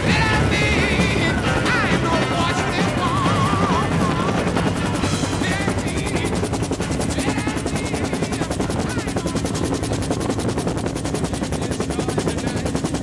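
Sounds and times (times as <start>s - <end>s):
helicopter engine drone: 0.0s - 13.0s
helicopter rotor chopping: 0.0s - 13.0s.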